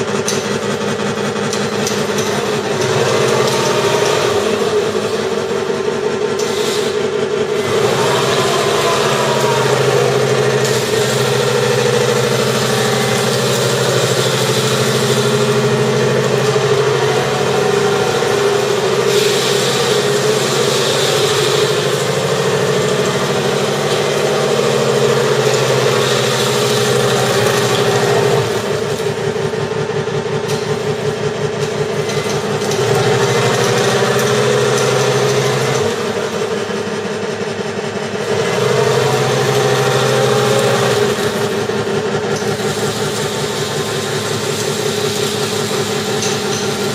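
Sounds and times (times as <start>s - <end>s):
tank engine sound from speaker: 0.0s - 46.9s.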